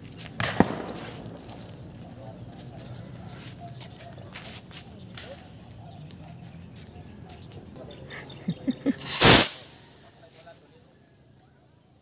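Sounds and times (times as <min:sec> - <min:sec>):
insects chirping in a trill: 0:00.0 - 0:12.0.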